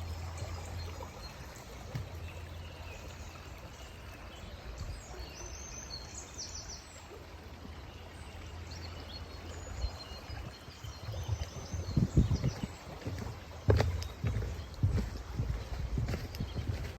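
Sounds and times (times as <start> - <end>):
river water flowing: 0.0 - 16.9
small birds chirping: 0.0 - 16.9.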